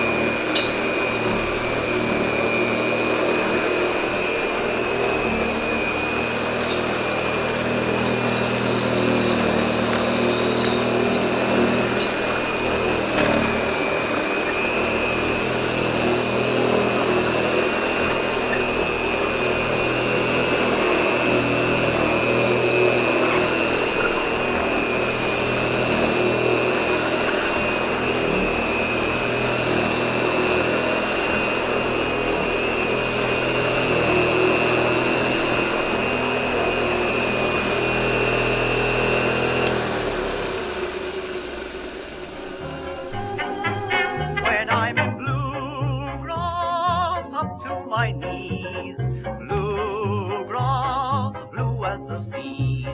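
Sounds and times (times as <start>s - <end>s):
upright vacuum cleaner running: 0.0s - 45.7s.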